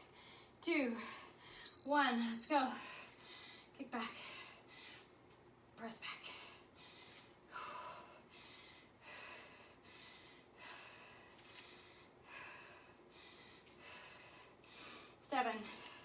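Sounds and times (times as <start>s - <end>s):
woman breathing heavily: 0.0s - 1.7s, 2.6s - 5.4s, 6.1s - 16.0s.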